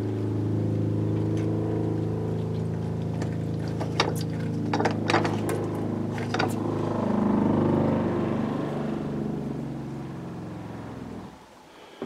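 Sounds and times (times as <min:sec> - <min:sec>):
water pump humming: 0:00.0 - 0:11.9.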